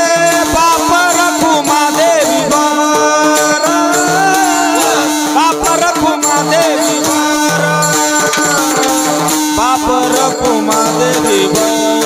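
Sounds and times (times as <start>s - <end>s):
jingling percussion: 0.0s - 12.0s
sliding ornamented melody: 0.1s - 12.0s.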